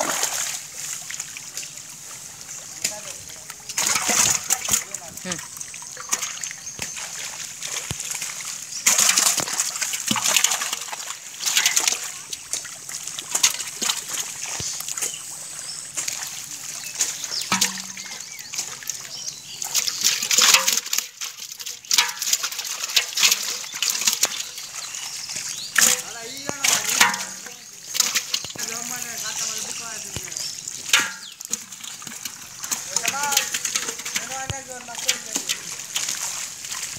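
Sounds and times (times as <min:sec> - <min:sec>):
water splashing and sloshing: 0:00.0 - 0:36.9.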